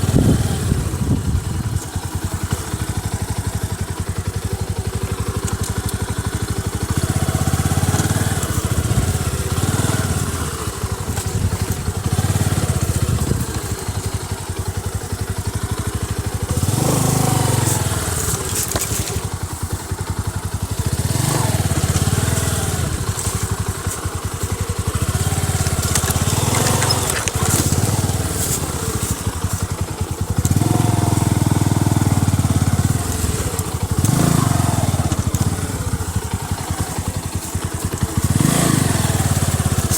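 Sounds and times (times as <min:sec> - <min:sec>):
clatter from rough track: 0:00.0 - 0:39.9
motorcycle engine revving: 0:00.0 - 0:39.9.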